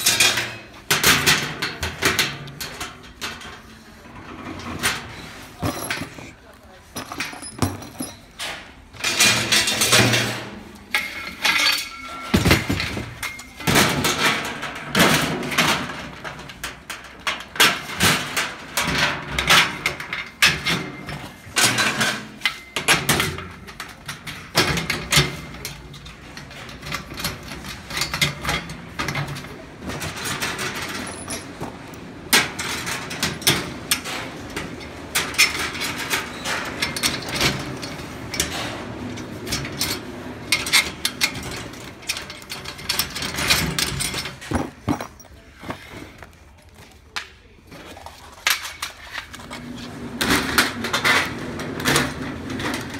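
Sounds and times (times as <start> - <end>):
metal knocks clanks and scraping: 0.0 - 46.3.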